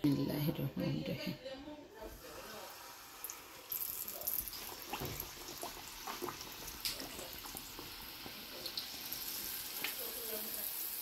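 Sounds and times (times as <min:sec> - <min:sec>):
hot oil sizzling with crackles: 0:02.1 - 0:11.0.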